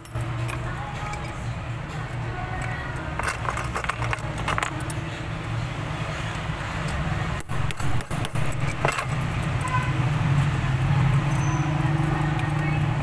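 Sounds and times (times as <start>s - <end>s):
metal parts clinking: 0.0s - 5.6s, 6.3s - 13.0s
traffic rumble: 0.0s - 13.0s.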